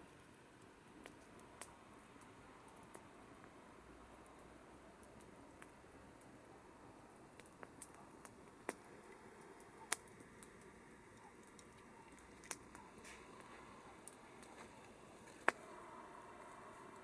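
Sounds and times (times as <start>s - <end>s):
campfire wood crackling: 0.0s - 17.0s
faint steady hiss: 0.0s - 17.0s.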